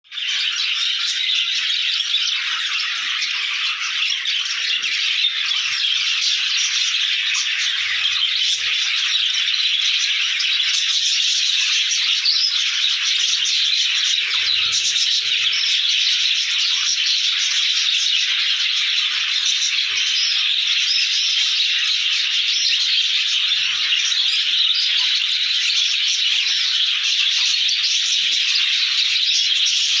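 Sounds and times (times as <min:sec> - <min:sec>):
parrots chattering and chirping: 0:00.0 - 0:30.0.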